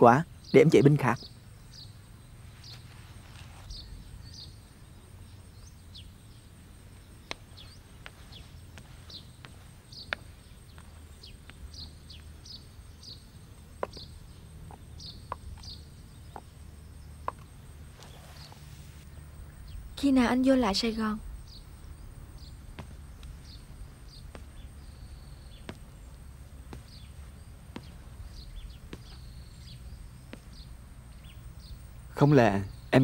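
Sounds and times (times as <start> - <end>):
low steady hum: 0.0 - 33.0
small birds chirping: 0.0 - 33.0.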